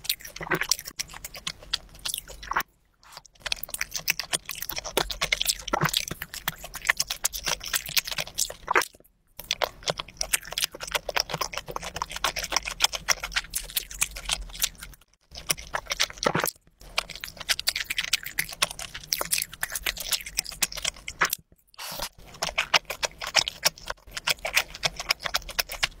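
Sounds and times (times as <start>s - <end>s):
close chewing with wet smacks: 0.0s - 26.0s.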